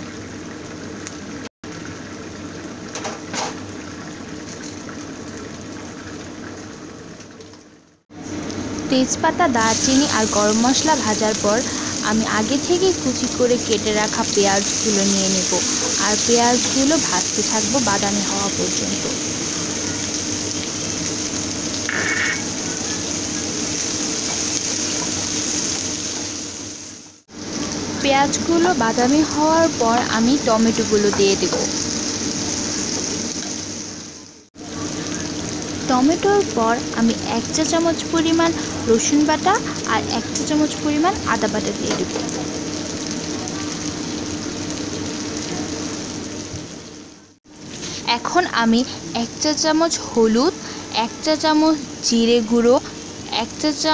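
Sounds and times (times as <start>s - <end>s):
onions sizzling in oil: 0.0s - 53.9s.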